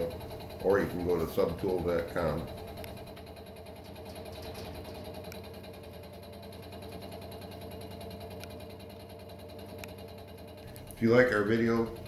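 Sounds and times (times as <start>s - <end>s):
milling machine cutting steel: 0.0s - 12.0s.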